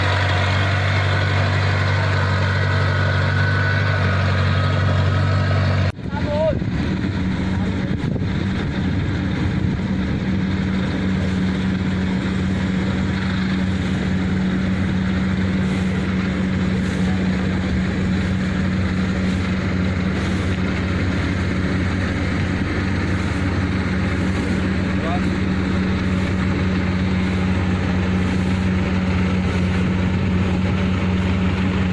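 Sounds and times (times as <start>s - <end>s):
harvester engine humming: 0.0s - 31.9s.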